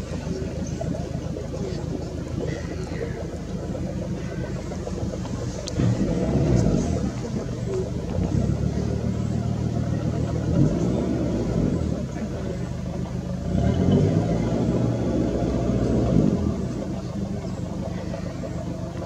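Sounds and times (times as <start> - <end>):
engine running low rumble: 0.0 - 19.0.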